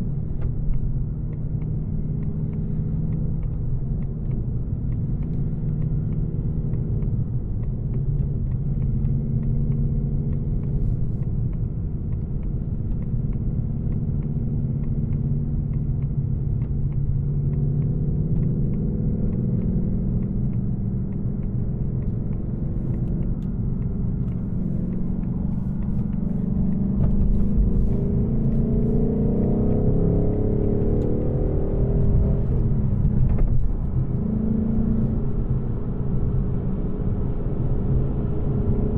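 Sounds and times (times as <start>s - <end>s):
car engine rumbling and accelerating: 0.0s - 38.9s.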